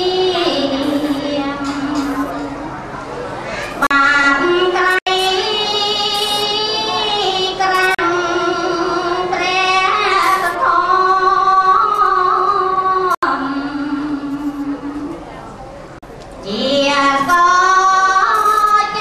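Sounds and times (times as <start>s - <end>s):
woman singing into a microphone: 0.0s - 2.7s, 3.8s - 15.4s, 16.4s - 19.0s.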